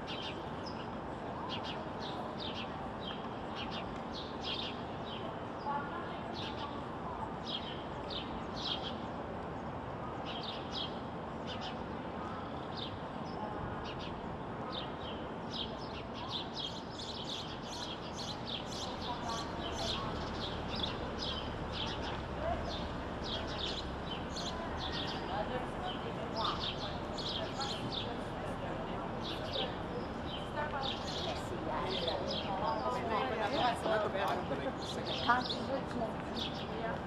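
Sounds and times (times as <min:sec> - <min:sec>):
sparrows chirping: 0:00.0 - 0:37.0
steady background noise: 0:00.0 - 0:37.0.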